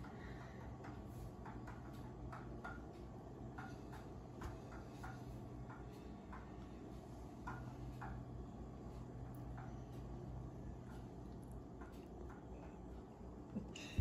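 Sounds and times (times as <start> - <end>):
faint ticking clicks: 0.0 - 13.6
low steady hum: 0.0 - 14.0.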